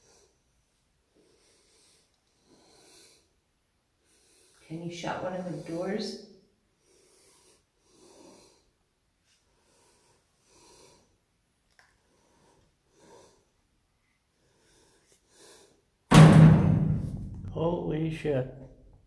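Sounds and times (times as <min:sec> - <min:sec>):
faint breaths: 0:00.0 - 0:16.1.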